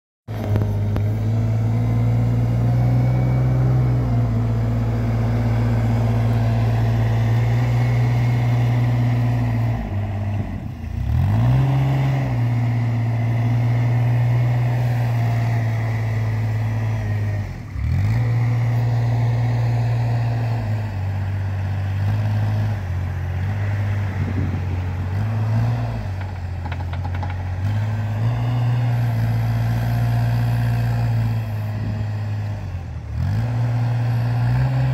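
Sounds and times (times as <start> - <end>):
wheel loader diesel engine running: 0.3 - 34.9.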